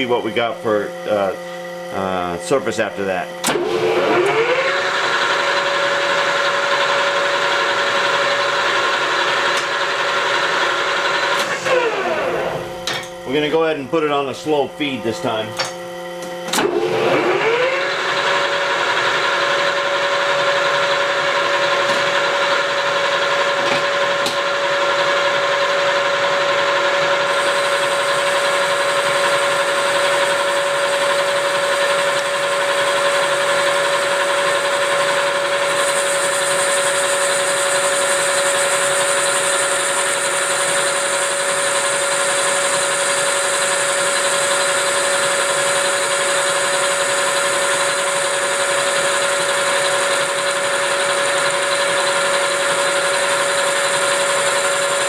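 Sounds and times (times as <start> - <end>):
metal lathe humming: 0.0 - 55.0.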